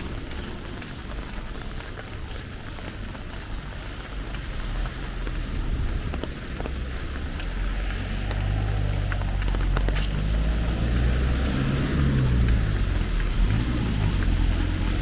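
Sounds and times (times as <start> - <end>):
rain falling: 0.0 - 15.0
vehicle engine hum: 0.0 - 15.0.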